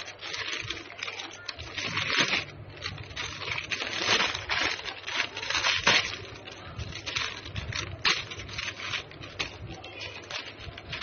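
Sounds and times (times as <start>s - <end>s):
plastic snack packet crinkling: 0.0s - 11.0s.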